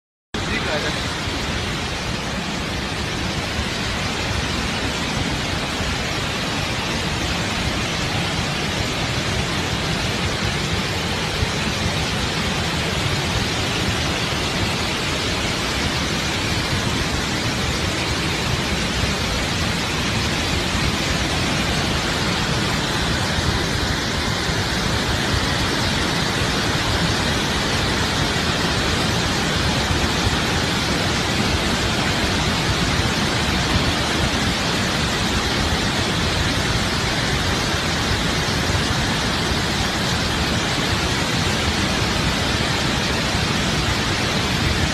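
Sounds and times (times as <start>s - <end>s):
water rushing from spillway: 0.4s - 44.9s.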